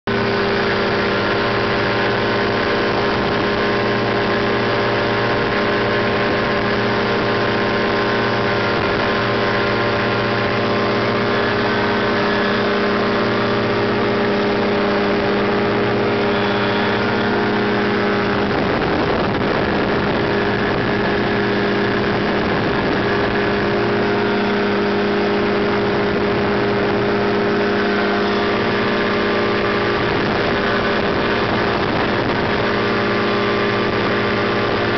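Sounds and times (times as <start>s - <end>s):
aircraft engine and propeller drone: 0.0s - 34.9s.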